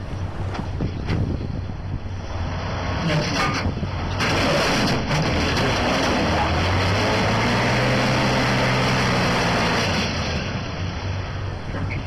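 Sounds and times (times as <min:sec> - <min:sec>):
dump truck diesel engine: 0:00.4 - 0:12.0.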